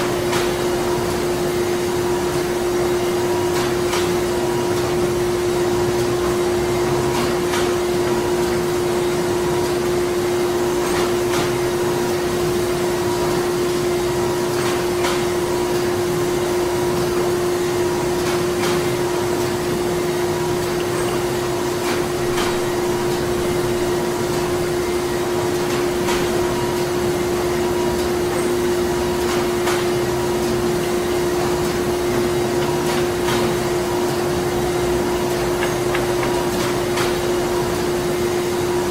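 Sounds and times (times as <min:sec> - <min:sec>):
machinery hum and whir: 0:00.0 - 0:38.9.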